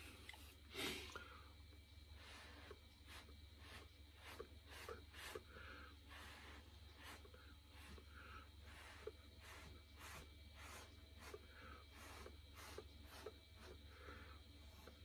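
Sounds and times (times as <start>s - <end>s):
breath puffs through a straw: 2.1s - 15.0s.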